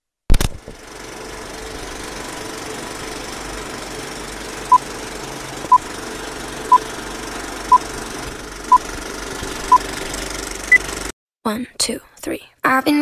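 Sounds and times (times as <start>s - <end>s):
film projector rattle: 0.4s - 11.1s.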